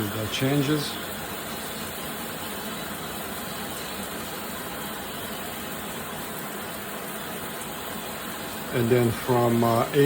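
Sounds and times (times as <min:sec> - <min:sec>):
shower water spraying: 0:00.0 - 0:10.0.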